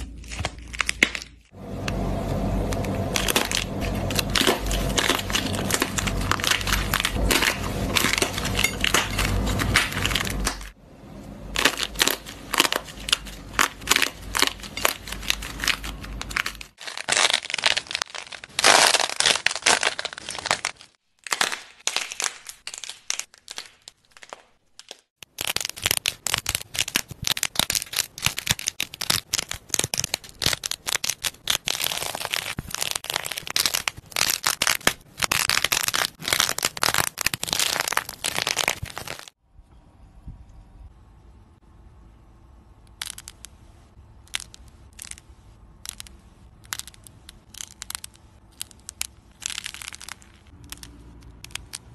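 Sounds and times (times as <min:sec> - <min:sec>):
dry clay crackling and crunching: 0:00.0 - 0:10.8, 0:11.5 - 0:39.4, 0:42.8 - 0:51.9.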